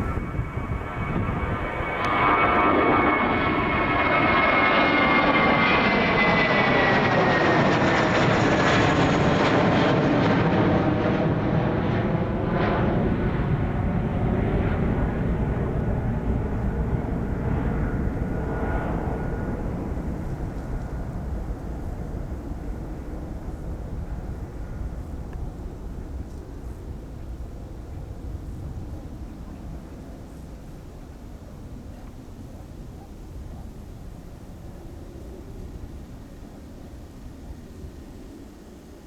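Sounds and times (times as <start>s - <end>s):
airliner engines passing by: 0.0s - 39.0s.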